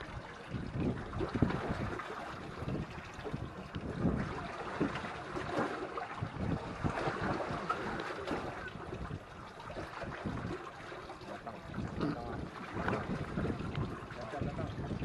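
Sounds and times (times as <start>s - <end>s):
water splashing against a boat: 0.0s - 15.0s
wind on the microphone: 0.0s - 15.0s.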